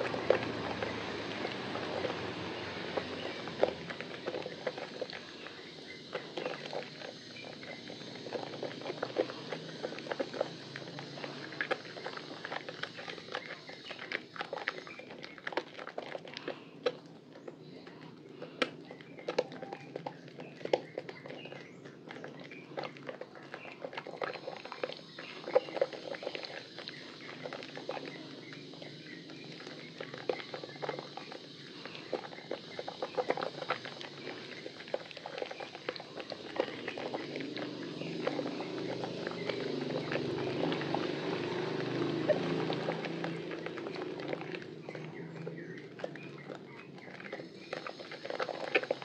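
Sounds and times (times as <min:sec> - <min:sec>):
lather clicks and crackles: 0:00.0 - 0:49.0
wet soap squelching in hands: 0:00.0 - 0:49.0.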